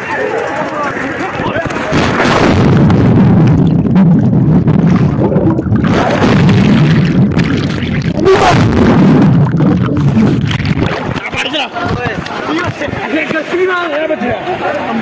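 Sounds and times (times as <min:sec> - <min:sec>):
muffled underwater rumble: 0:00.0 - 0:12.9
bubbles and splashes: 0:00.0 - 0:13.5.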